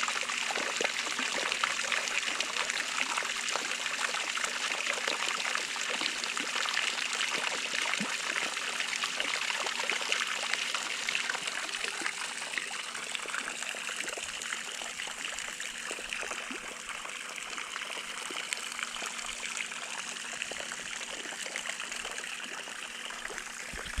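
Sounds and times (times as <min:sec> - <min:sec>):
water splashing into pool: 0:00.2 - 0:24.0.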